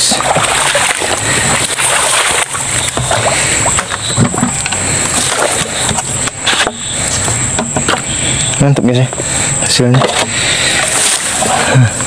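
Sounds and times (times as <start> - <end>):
water sloshing and splashing: 0.0 - 8.4, 9.1 - 12.0.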